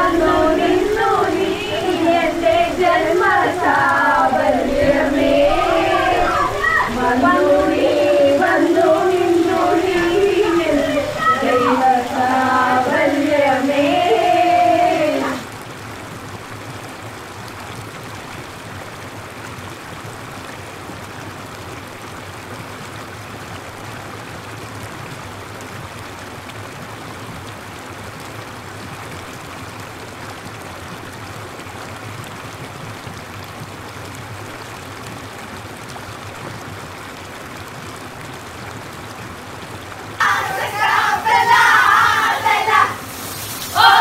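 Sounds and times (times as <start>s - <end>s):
artificial rain falling: 0.0s - 44.0s.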